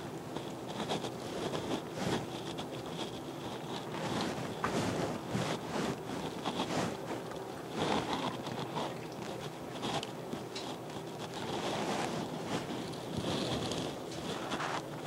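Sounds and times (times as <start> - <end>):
small clicks and scrapes: 0.0 - 15.0.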